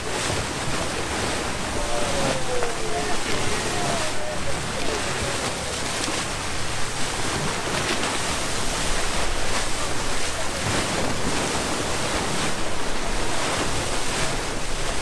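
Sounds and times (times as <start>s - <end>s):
water splashing along boat hull: 0.0s - 15.0s.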